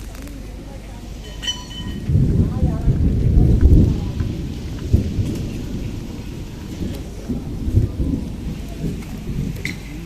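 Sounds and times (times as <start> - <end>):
low rumbling thunder: 1.9 - 10.0.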